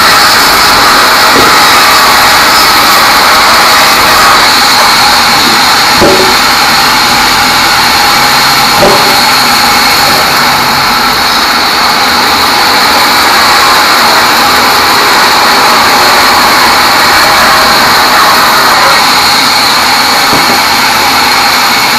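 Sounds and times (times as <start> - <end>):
band saw cutting log: 0.0 - 21.9.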